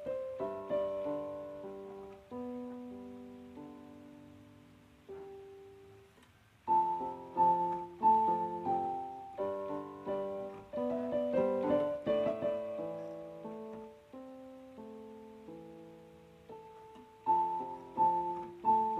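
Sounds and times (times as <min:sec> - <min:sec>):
piano melody: 0:00.0 - 0:18.9.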